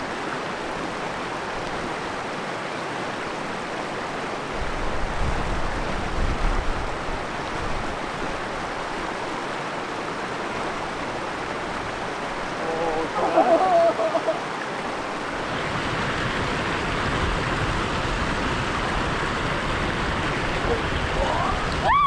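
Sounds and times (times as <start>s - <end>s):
river rapids rushing over rocks: 0.0s - 22.0s.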